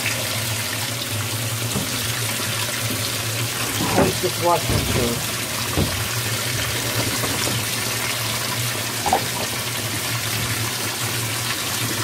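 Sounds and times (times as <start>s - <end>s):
water pouring into washer: 0.0s - 12.0s.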